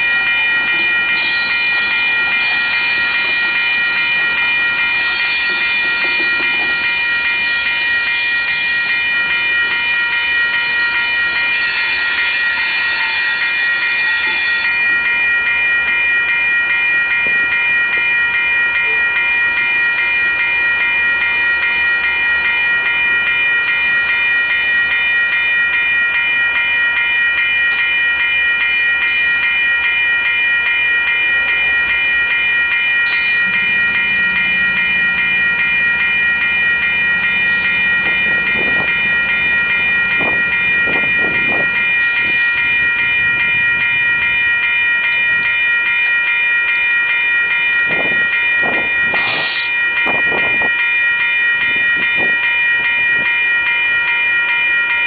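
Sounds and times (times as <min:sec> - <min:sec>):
crossing bell ringing: 0:00.0 - 0:55.0
diesel freight train rumbling: 0:00.0 - 0:55.0.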